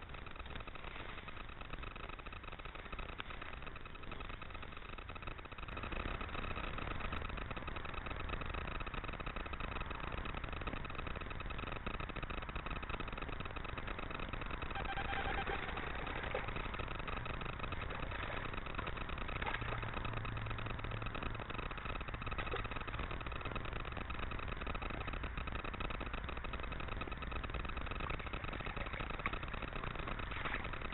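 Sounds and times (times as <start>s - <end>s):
faint whine: 0.0s - 30.9s.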